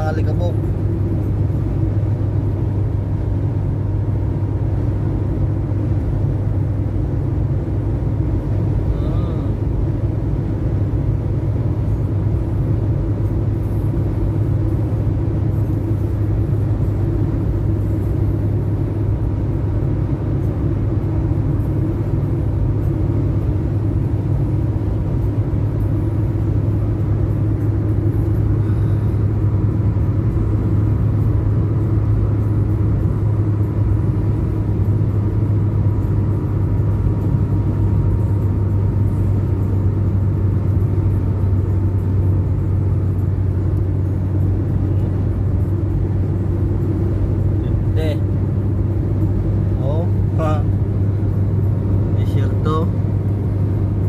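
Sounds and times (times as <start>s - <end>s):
vehicle low rumble: 0.0s - 54.0s.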